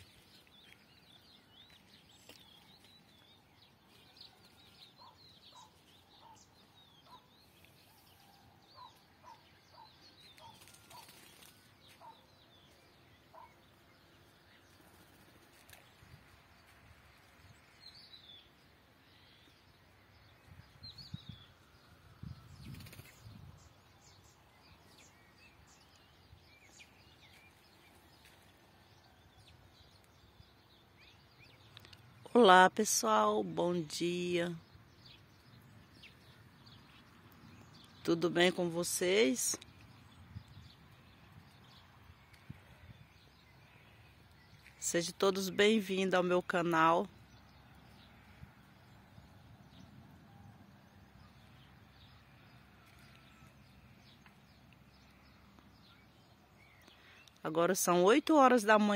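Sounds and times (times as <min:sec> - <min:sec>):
small birds chirping: 0:00.0 - 0:58.9.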